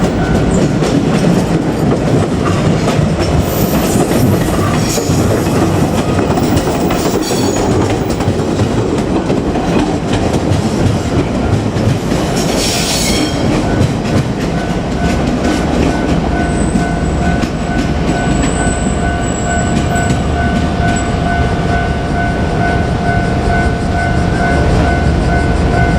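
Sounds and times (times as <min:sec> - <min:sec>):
crossing warning bell ringing: 0:00.0 - 0:09.4, 0:11.2 - 0:25.9
train wheels clattering over rail joints: 0:00.0 - 0:22.7
train rumble: 0:00.0 - 0:25.9.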